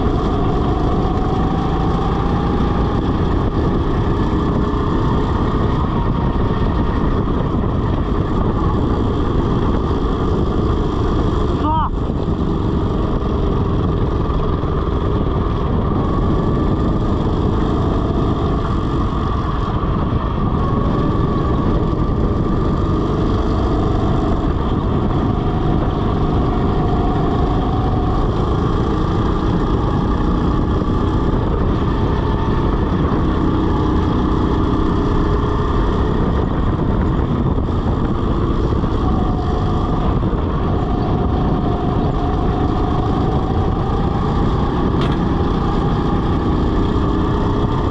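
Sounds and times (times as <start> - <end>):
go-kart motor drone: 0.0 - 47.9
wind and road noise: 0.0 - 47.9.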